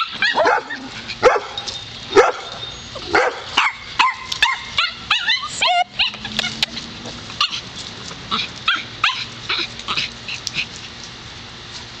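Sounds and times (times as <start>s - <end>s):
dogs yipping and barking: 0.0s - 11.0s.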